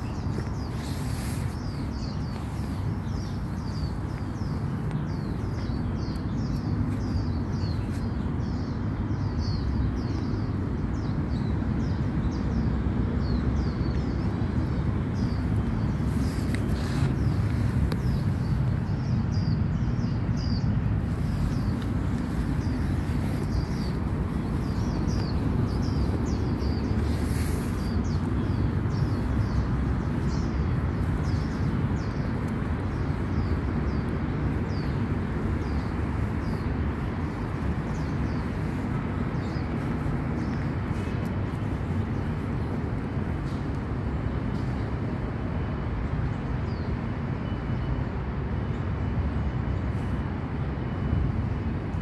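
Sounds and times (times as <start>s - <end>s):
bird chirping: 0.0s - 42.4s
city traffic rumble: 0.0s - 52.0s.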